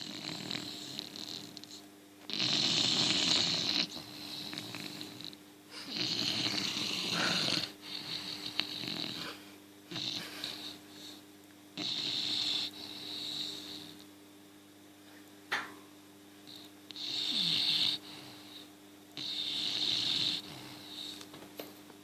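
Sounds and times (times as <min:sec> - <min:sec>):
dog snoring: 0:00.0 - 0:14.0, 0:16.4 - 0:21.3.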